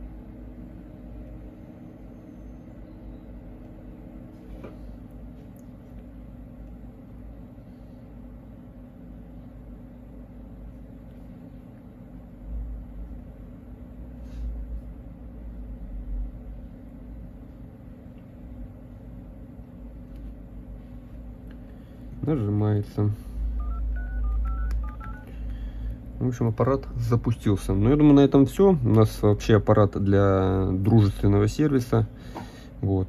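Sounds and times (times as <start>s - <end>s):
machinery hum: 0.0s - 33.0s.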